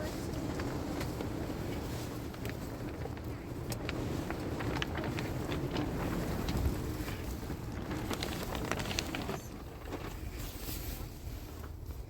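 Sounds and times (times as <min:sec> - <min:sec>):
small clicks and crackles: 0:00.0 - 0:12.0
wind buffeting microphone: 0:00.0 - 0:12.0.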